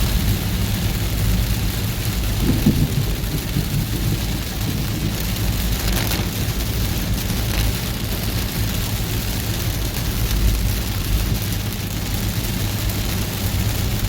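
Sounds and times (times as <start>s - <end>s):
car rumbling on the road: 0.0s - 14.0s
rain hissing on a car: 0.0s - 14.0s.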